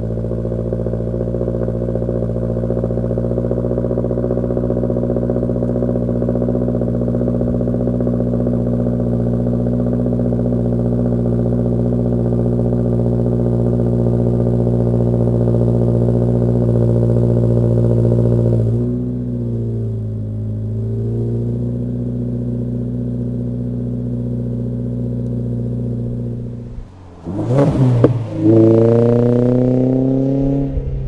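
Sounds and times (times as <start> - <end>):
car engine and exhaust cruising: 0.0 - 31.0.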